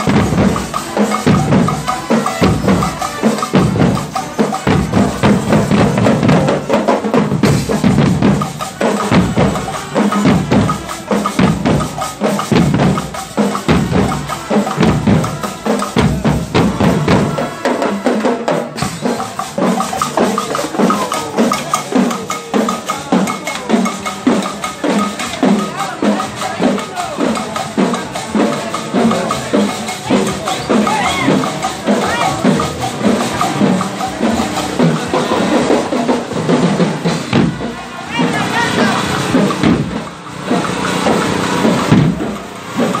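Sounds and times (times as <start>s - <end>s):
bass drums beating: 0.0s - 17.6s, 18.8s - 43.0s
snare drums: 0.0s - 43.0s.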